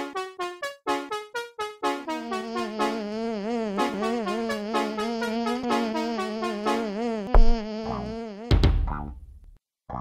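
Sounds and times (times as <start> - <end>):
jazzy cartoon music: 0.0 - 9.5.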